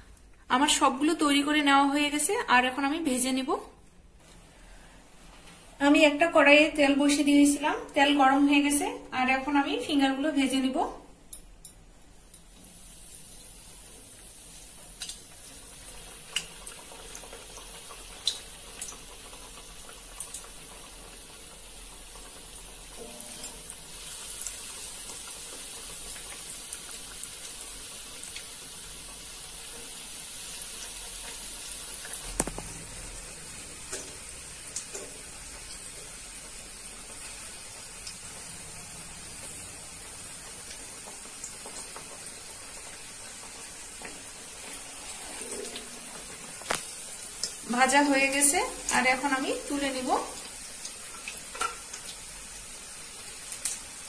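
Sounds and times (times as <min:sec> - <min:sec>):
food deep-frying in oil: 0:04.4 - 0:54.0.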